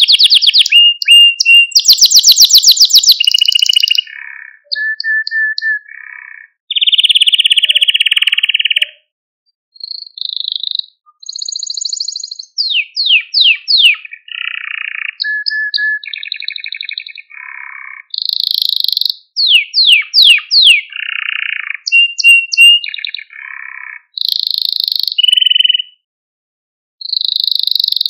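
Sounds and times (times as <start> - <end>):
canary singing: 0.0 - 9.1, 9.7 - 26.0, 27.0 - 28.0.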